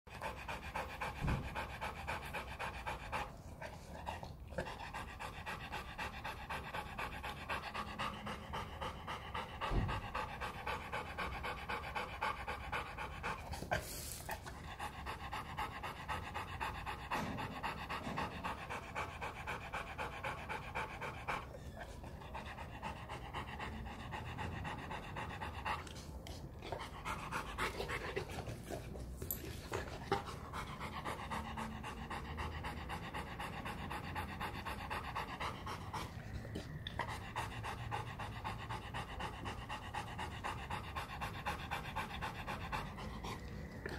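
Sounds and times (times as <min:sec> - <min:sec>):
dog panting fast: 0:00.0 - 0:43.9.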